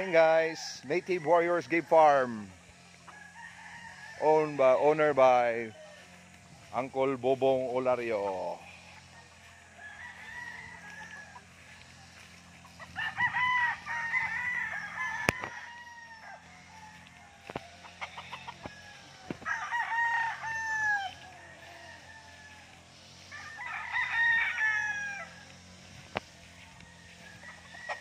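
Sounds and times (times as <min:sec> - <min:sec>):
roosters crowing: 0:00.0 - 0:28.0.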